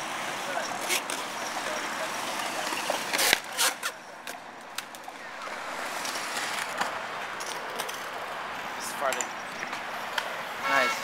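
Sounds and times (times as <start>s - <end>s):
skateboard wheels rolling on concrete: 0.0s - 10.7s.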